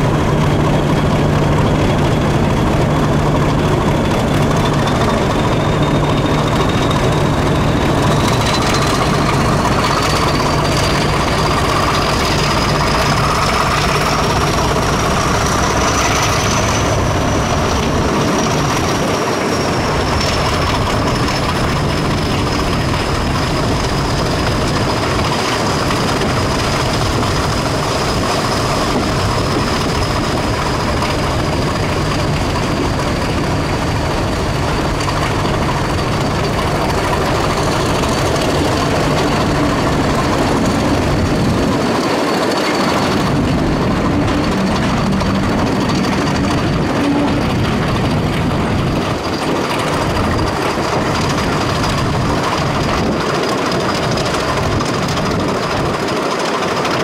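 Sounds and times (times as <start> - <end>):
high whine: 0.0 - 56.0
wheels rumbling on rails: 0.0 - 57.0.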